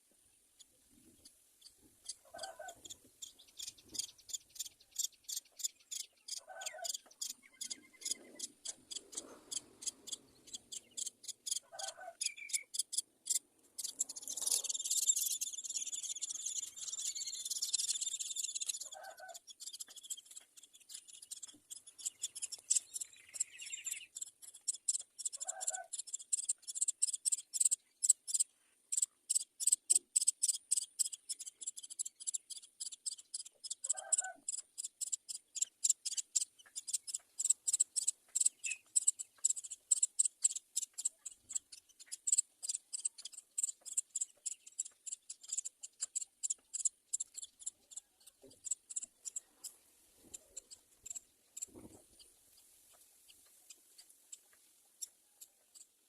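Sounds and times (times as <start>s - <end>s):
birds chirping: 0.0s - 56.0s
short lower bird calls: 0.6s - 52.4s.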